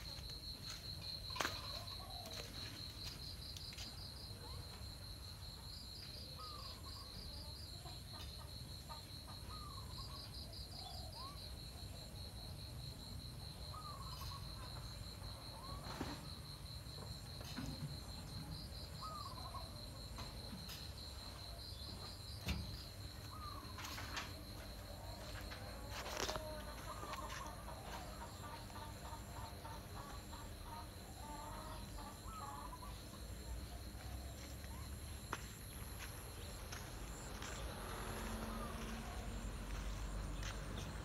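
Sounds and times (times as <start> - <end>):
insects trilling: 0.0 - 41.0.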